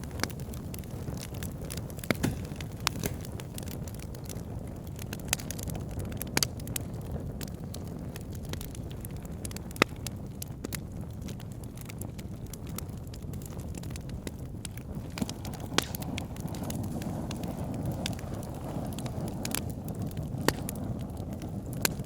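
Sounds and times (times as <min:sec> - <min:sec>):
fire crackling and popping: 0:00.0 - 0:22.0
low rumble of flame: 0:00.0 - 0:22.0.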